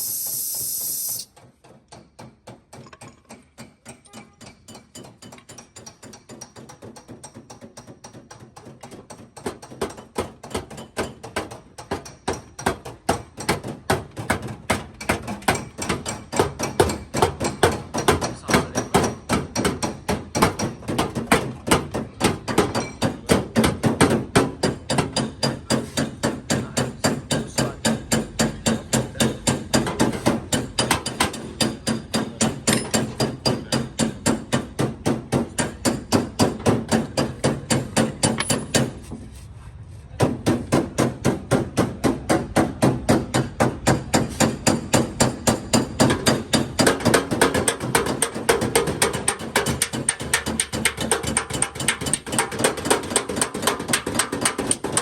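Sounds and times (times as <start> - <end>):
hammer knocking on sheet metal: 1.5 - 39.1, 40.2 - 55.0.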